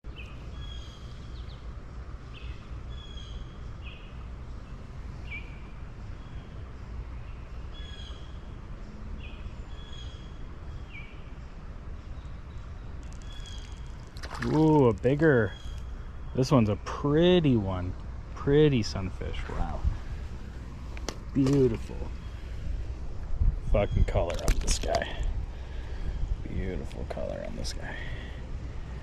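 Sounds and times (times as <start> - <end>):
low outdoor rumble: 0.0 - 29.0
songbirds chirping: 0.0 - 29.0.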